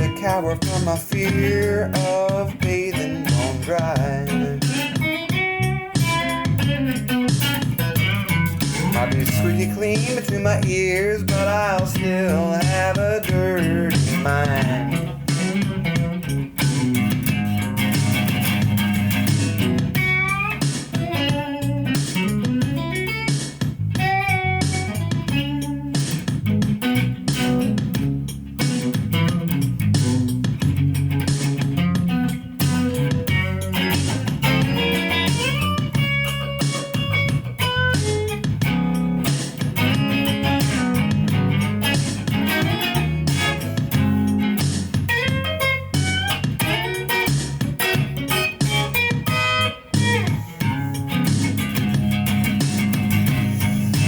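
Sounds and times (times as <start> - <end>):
blues shuffle electric guitar and bass: 0.0 - 54.0.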